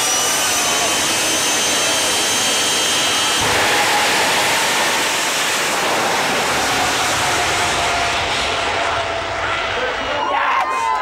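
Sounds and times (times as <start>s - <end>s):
jet engine with afterburner: 0.0s - 11.0s.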